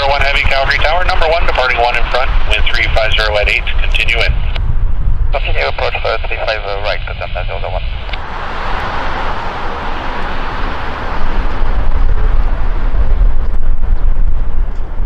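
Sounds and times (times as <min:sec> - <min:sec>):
jet aircraft rushing: 0:00.0 - 0:15.0
wind rumble on microphone: 0:00.0 - 0:15.0.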